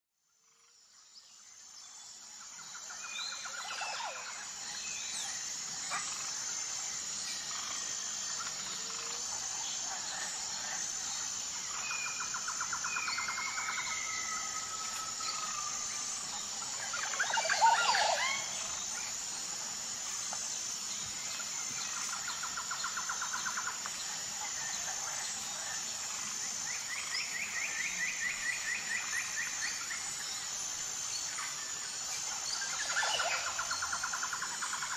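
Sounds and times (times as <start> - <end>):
high-pitched insect chorus: 0.3 - 34.9
birds calling and trilling: 2.6 - 34.9.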